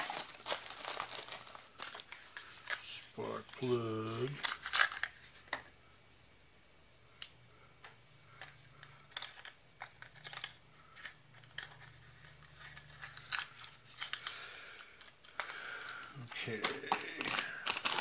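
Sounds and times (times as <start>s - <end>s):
plastic bags crinkling: 0.0s - 5.5s, 9.0s - 18.0s
faint steady hum: 0.0s - 18.0s.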